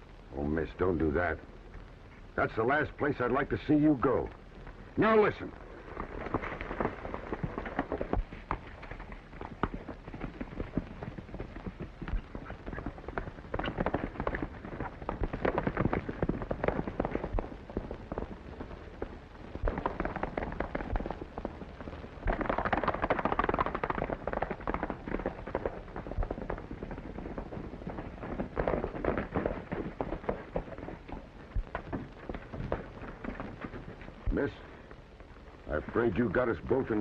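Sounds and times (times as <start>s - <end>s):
horses galloping hoofbeats: 2.3s - 37.0s.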